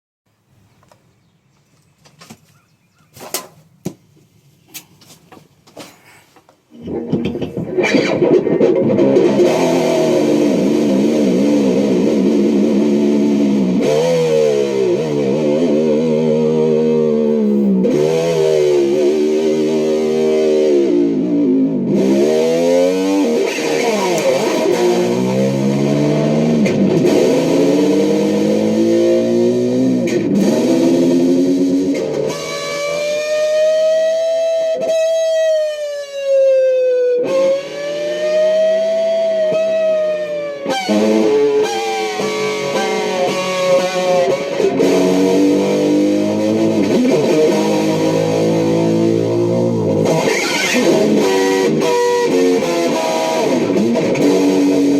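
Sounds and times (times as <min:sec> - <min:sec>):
distorted electric guitar: 0:06.7 - 0:54.9.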